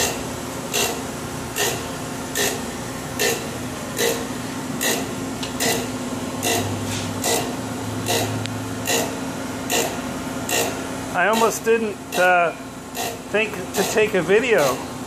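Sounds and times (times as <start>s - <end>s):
grinding wheel cutting bursts: 0.0s - 14.8s
machine steady hum: 0.0s - 15.0s.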